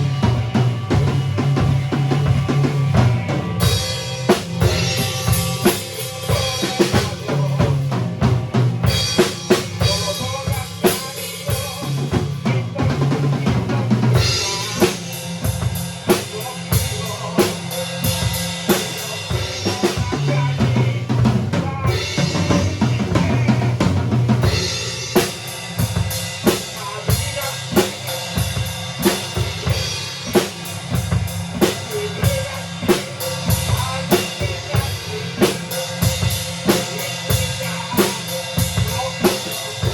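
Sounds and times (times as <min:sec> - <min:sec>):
band playing: 0:00.0 - 0:39.9
drum kit beat: 0:00.0 - 0:39.9.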